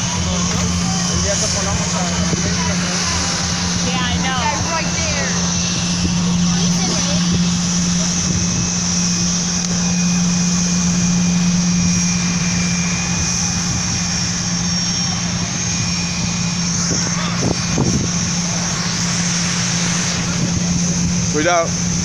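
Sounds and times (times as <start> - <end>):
aircraft engine drone: 0.0 - 22.0
high-pitched engine whine: 0.0 - 22.0.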